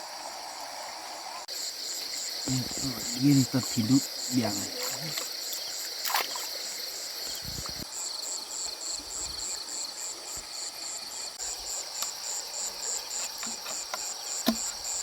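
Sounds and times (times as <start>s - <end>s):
continuous high insect trill: 0.0s - 15.0s
crickets chirping: 0.0s - 15.0s.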